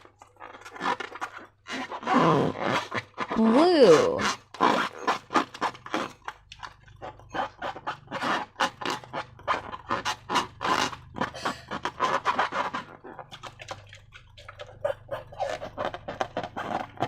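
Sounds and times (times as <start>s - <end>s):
slime squelching: 0.0s - 17.0s.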